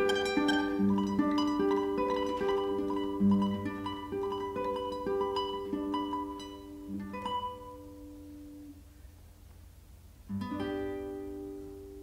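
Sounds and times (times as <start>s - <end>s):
classical guitar playing: 0.0s - 9.1s, 10.2s - 12.0s.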